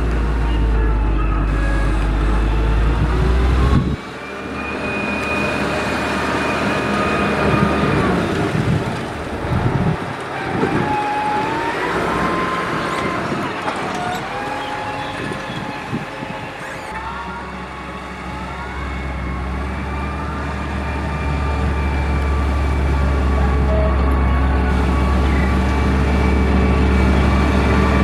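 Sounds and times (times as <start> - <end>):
diesel engine rumbling under load: 0.0 - 28.0
whining tones over gritty noise: 0.0 - 28.0.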